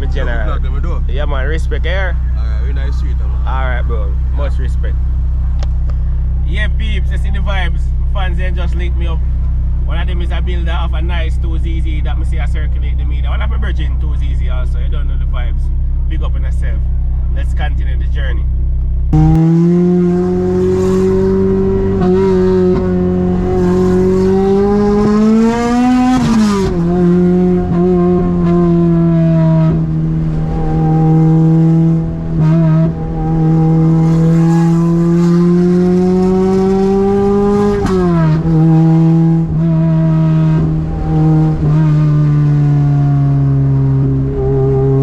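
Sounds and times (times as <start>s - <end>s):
car engine under load: 0.0s - 45.0s.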